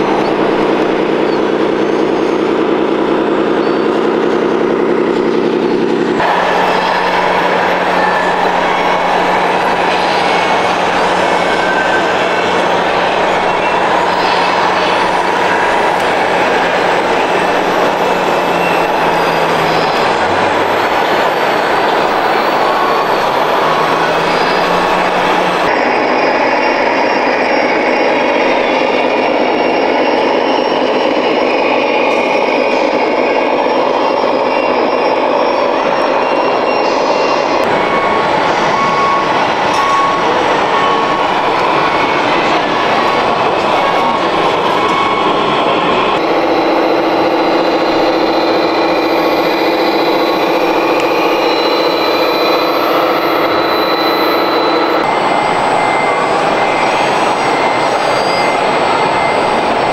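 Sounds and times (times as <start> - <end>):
simulated truck engine: 0.0 - 35.1, 37.6 - 59.9
busy indoor hall din: 0.0 - 59.9.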